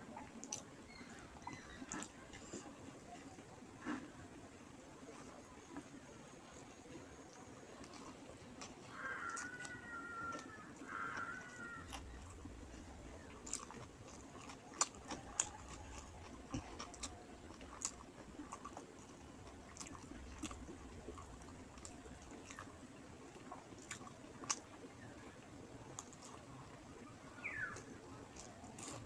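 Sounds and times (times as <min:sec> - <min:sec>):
person chewing food: 0:00.1 - 0:04.4, 0:05.0 - 0:29.0.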